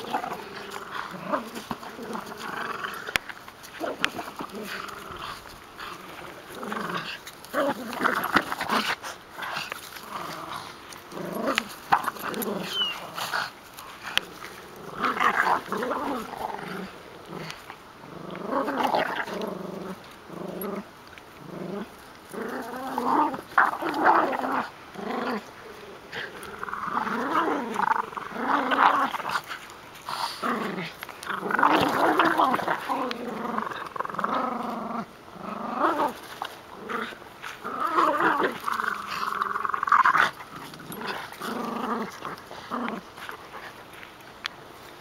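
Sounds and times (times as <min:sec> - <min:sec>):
small dogs growling: 0:00.0 - 0:45.0.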